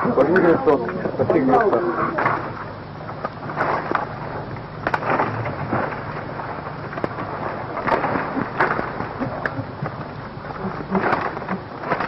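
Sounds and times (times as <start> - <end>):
rustling undergrowth: 0.6 - 12.0
dry branches crackling and snapping: 2.2 - 12.0.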